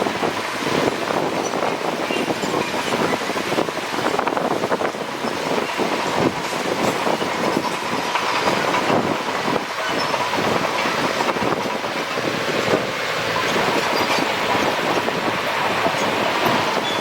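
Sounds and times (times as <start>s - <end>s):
bulldozer engine: 0.0s - 17.0s
steel tracks clattering: 0.0s - 17.0s.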